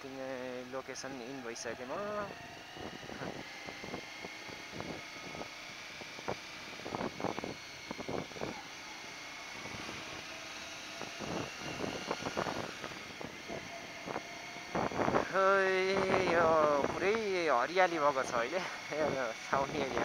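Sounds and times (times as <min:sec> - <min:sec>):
motorcycle engine at low speed: 0:00.0 - 0:20.0
road noise: 0:00.0 - 0:20.0
thin high whine: 0:00.0 - 0:20.0.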